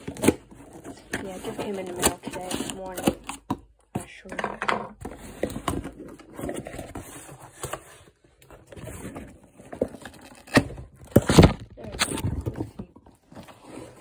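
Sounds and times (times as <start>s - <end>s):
cardboard and paper rustling: 0.0s - 14.0s.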